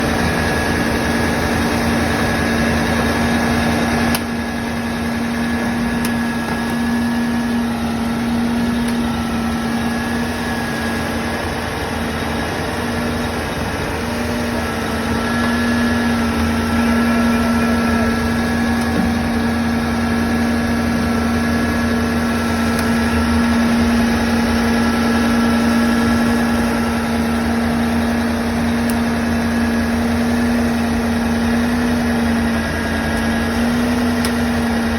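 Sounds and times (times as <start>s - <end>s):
high machine whine: 0.0s - 34.9s
machine engine hum: 0.0s - 34.9s.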